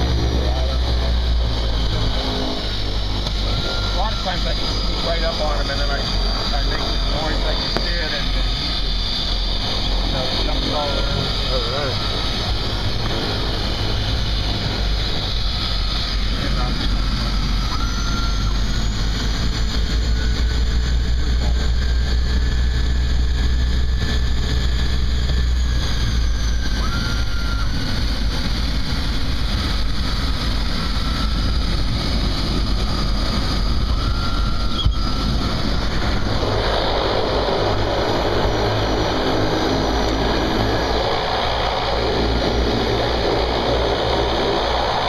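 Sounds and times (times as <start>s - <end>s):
propeller aircraft engine hum: 0.0s - 45.0s
rough rushing noise: 0.0s - 45.0s.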